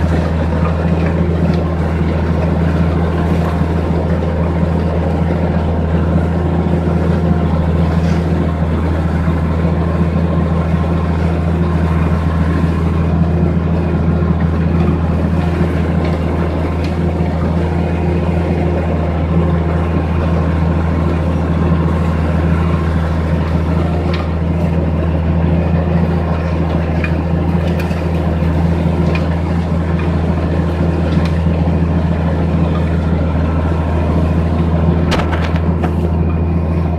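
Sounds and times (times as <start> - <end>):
tractor engine idling: 0.0 - 36.9.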